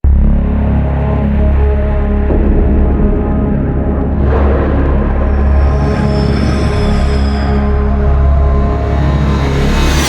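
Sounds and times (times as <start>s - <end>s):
dark ominous music with deep bass: 0.0s - 10.0s.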